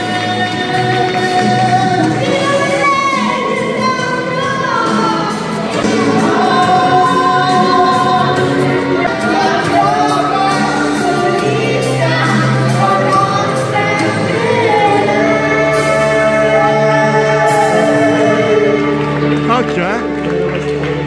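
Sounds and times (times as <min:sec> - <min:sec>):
woman singing: 0:00.0 - 0:19.5
musical accompaniment: 0:00.0 - 0:21.0.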